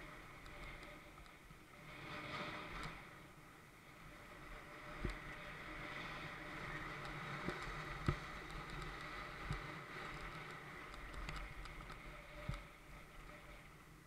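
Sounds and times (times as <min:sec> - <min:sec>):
bike tyres on dirt: 0:00.0 - 0:14.0.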